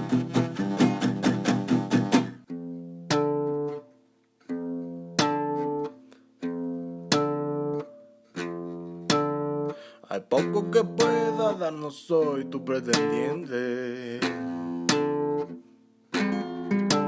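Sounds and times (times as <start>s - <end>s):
guitar chords strummed: 0.0s - 3.9s, 4.5s - 17.0s.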